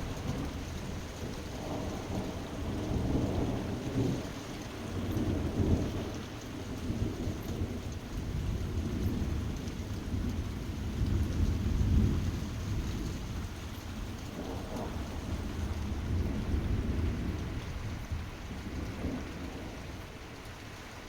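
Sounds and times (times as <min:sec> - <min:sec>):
thunder rolling: 0:00.0 - 0:20.7
heavy rain: 0:00.0 - 0:21.0.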